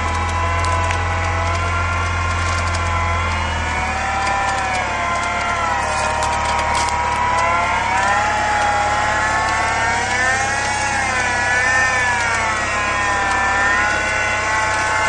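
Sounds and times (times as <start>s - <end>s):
electric winch whining under load: 0.0s - 15.0s
truck engine running low: 0.0s - 15.0s.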